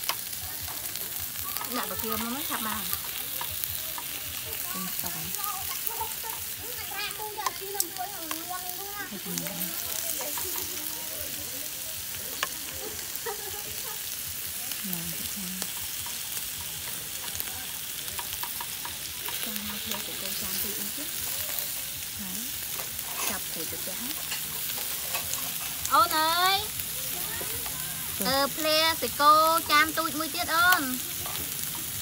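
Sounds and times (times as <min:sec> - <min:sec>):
food frying in hot oil: 0:00.0 - 0:32.0.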